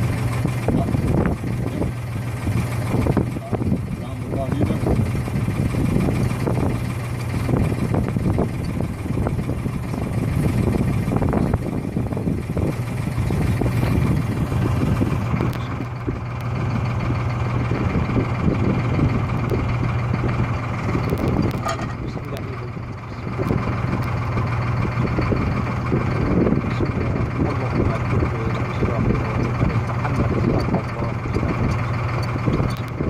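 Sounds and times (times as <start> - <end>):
boat engine humming: 0.0 - 33.0
rough wind: 0.0 - 33.0.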